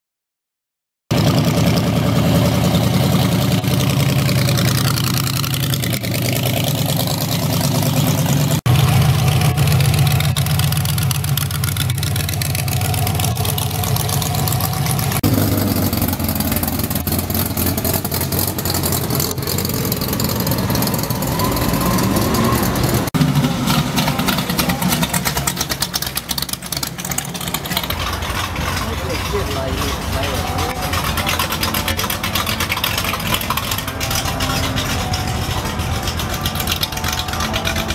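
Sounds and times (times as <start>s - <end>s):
car engines driving past: 1.1s - 37.9s.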